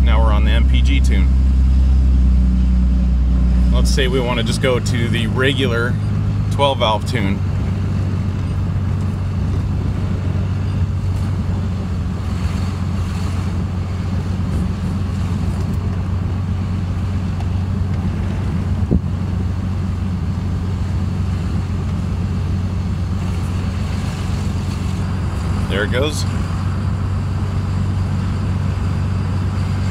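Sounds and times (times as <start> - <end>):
diesel engine droning: 0.0 - 29.9.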